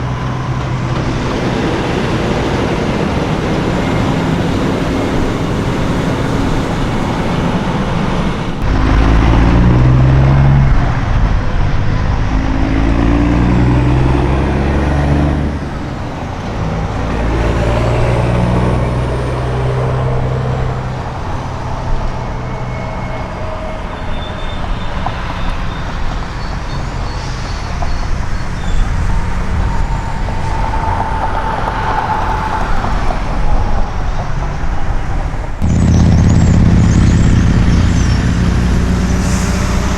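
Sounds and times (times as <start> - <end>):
diesel truck engine pulling away: 0.0 - 39.9
road traffic rushing: 0.0 - 39.9.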